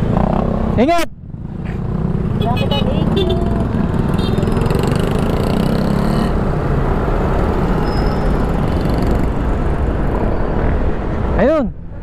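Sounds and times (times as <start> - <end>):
motorcycle traffic: 0.0 - 12.0.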